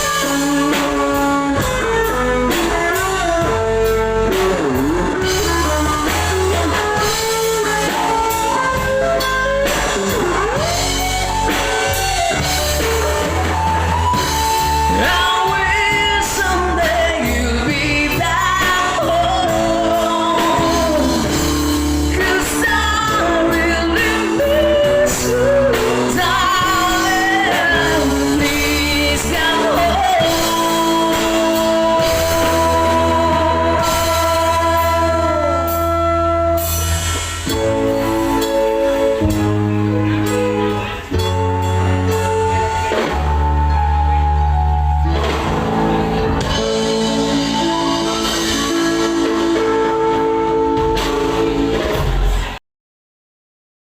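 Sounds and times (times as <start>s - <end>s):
person singing: 0.0s - 52.6s
rock band playing: 0.0s - 52.6s.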